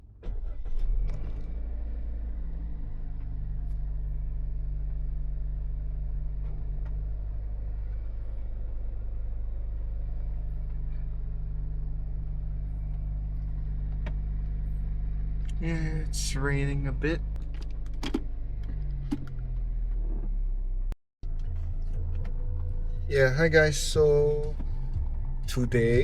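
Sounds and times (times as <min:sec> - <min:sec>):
car engine idling: 0:00.2 - 0:26.0.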